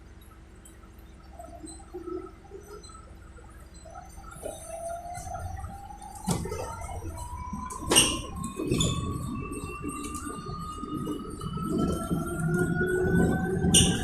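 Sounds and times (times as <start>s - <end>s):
electric bus motor whining: 0.0s - 14.0s
low rumble of bus ride: 0.0s - 14.0s.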